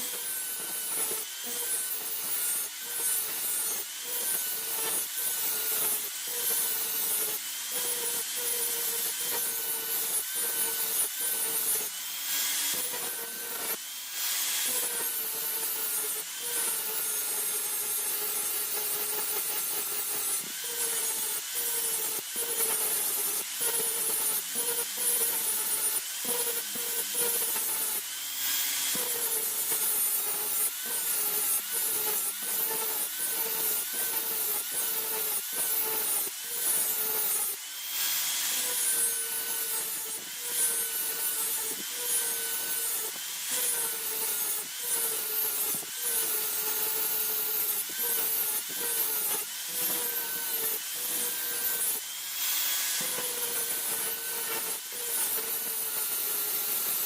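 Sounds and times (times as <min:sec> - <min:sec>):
hand tool rasping strokes: 0:00.0 - 0:57.0.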